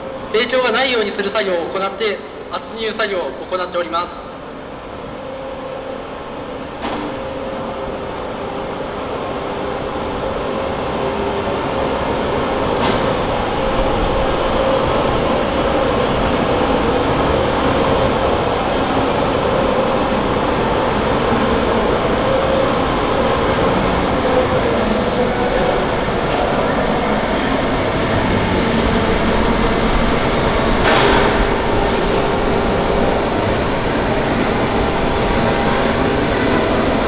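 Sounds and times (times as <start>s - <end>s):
crane mechanical rumble: 4.2s - 37.0s.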